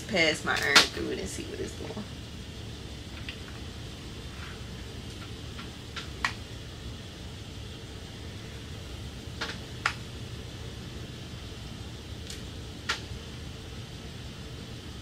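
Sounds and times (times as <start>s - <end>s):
fan-like background hum: 0.0s - 15.0s.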